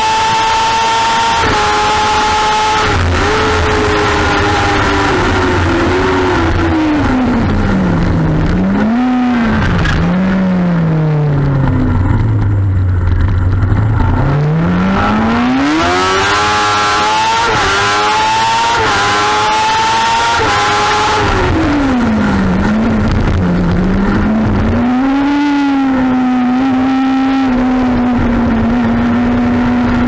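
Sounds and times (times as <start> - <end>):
racing motorcycle engine revving: 0.0 - 30.0.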